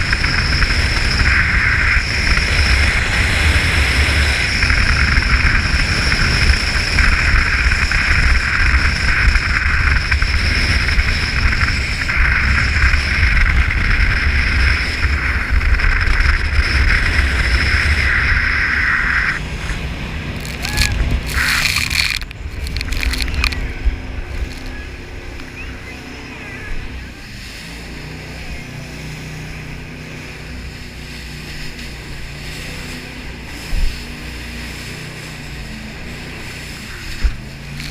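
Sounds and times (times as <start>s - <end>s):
boat engine drone: 0.0s - 37.9s
rush of wind and water: 0.0s - 37.9s.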